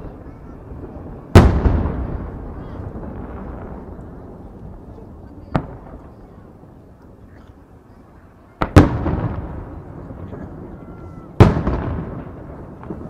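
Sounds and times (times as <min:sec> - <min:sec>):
firework shells bursting with echo: 0:00.0 - 0:07.1, 0:08.5 - 0:13.0.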